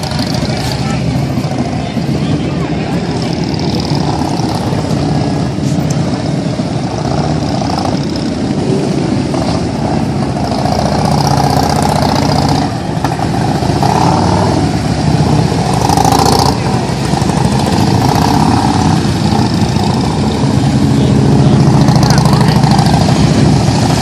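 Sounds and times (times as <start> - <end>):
motorcycle engines running slowly: 0.0 - 24.0.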